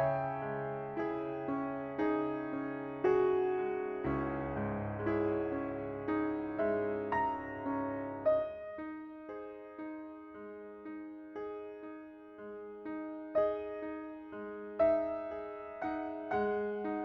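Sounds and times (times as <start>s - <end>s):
soft solo piano music: 0.0s - 17.0s.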